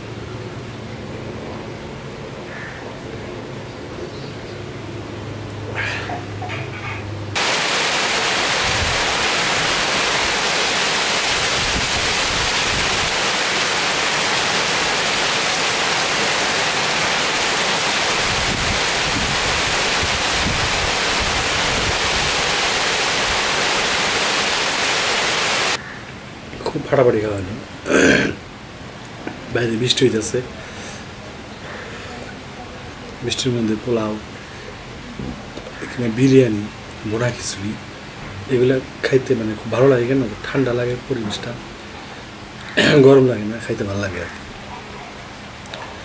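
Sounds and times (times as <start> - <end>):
rain falling on foliage: 7.4 - 44.7.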